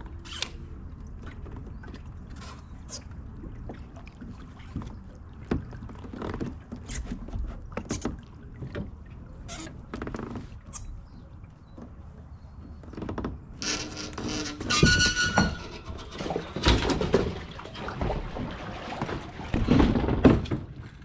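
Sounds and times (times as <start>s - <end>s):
low rumble of wind or water: 0.0s - 21.0s.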